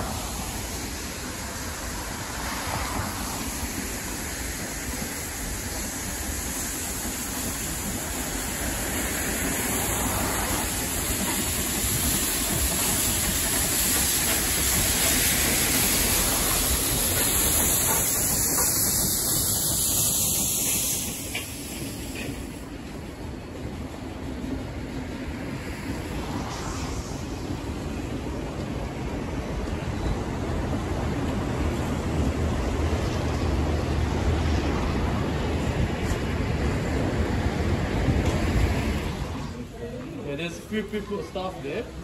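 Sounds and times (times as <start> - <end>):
steam locomotive hiss: 0.0 - 42.0.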